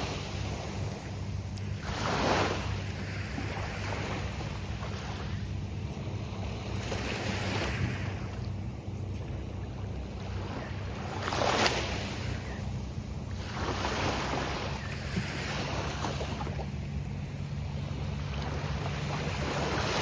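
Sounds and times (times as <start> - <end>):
steady low surf rumble: 0.0 - 20.0
waves crashing on beach: 0.0 - 20.0.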